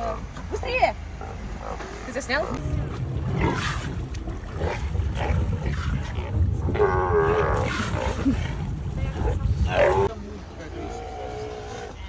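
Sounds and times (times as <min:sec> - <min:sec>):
sea lions roaring: 0:01.1 - 0:12.0.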